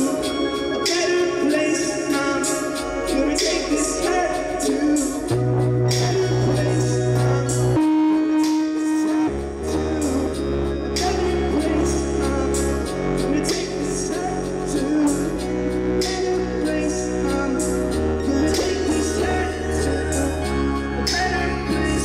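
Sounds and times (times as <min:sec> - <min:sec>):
instrumental backing: 0:00.0 - 0:22.0
low bass notes: 0:00.0 - 0:22.0
person singing: 0:00.0 - 0:22.0.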